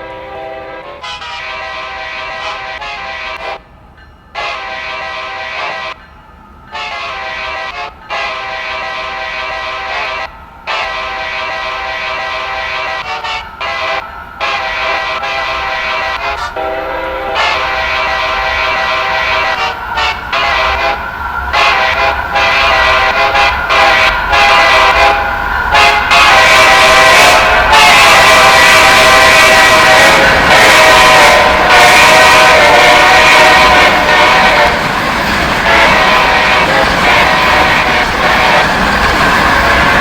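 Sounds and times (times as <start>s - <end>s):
locomotive horn blasts: 0.0s - 3.7s, 4.4s - 6.0s, 6.7s - 34.9s, 35.6s - 38.8s
train rumbling: 0.0s - 40.0s.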